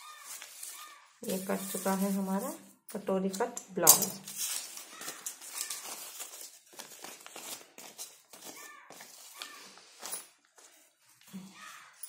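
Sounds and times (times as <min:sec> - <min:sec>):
newspaper rustling and crinkling: 0:00.0 - 0:02.6, 0:04.2 - 0:12.0.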